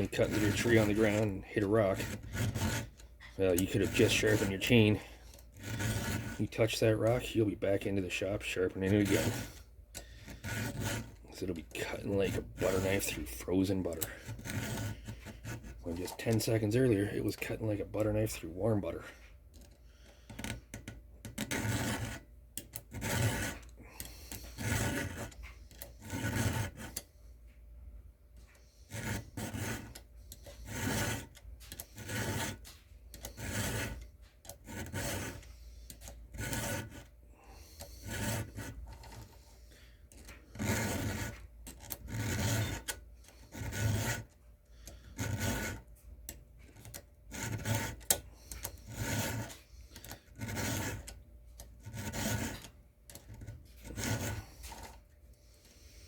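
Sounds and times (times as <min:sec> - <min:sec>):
file rasping on chain teeth: 0:00.0 - 0:27.1, 0:28.5 - 0:51.2, 0:51.8 - 0:55.0.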